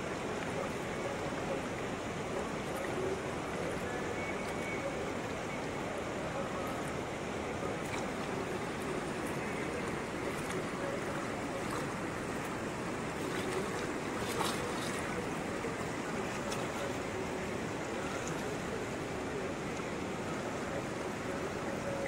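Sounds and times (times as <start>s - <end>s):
mountain river rushing: 0.0s - 22.0s.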